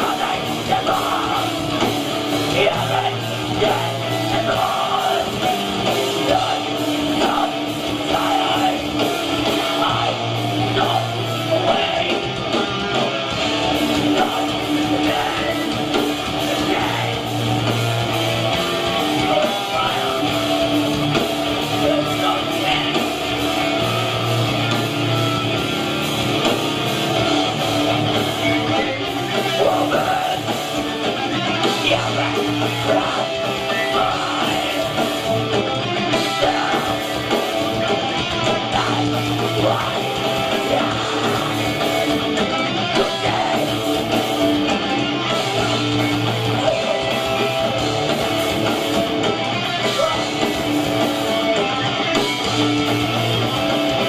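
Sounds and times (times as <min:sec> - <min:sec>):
live metal band playing: 0:00.0 - 0:54.0.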